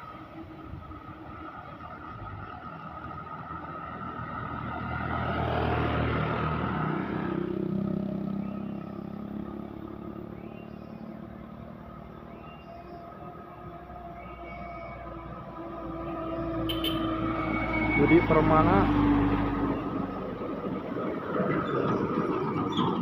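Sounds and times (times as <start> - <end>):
truck engine passing by: 1.8 - 23.0.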